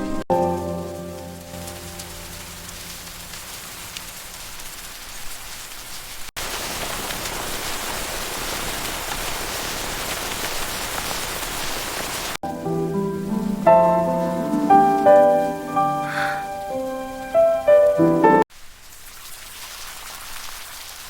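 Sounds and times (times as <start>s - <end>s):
rain falling: 0.0s - 15.9s, 16.6s - 21.0s.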